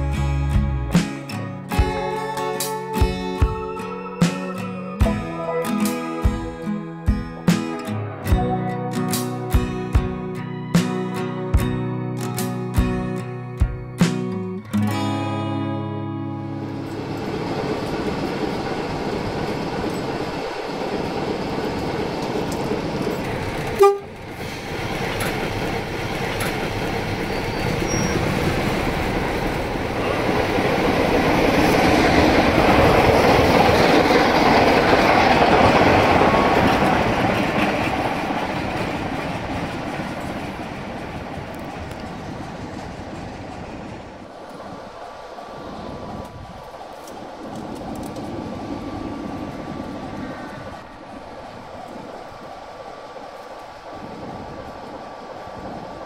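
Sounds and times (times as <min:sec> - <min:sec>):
train rail noise: 0:00.0 - 0:56.0.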